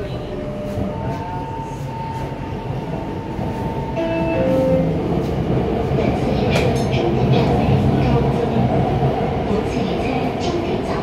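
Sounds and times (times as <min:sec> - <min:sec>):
metro train running noise: 0:00.0 - 0:11.0.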